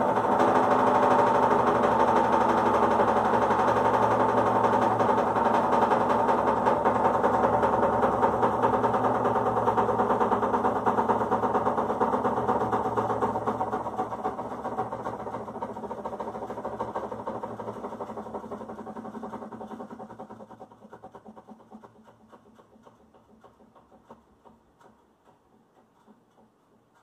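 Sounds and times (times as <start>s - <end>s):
machine humming with fine rattle: 0.0s - 27.0s.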